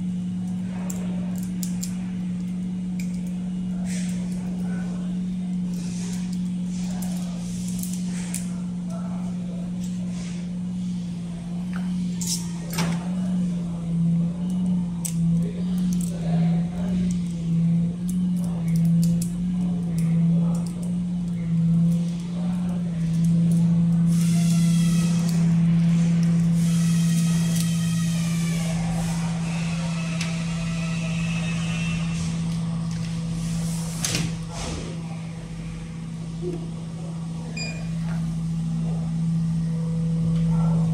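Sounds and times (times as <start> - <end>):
electric hum: 0.0 - 40.9.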